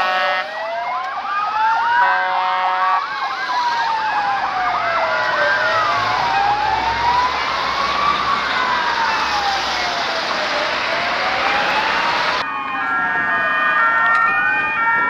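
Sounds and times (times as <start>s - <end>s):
siren wailing: 0.0s - 15.0s
siren yelping: 0.0s - 15.0s.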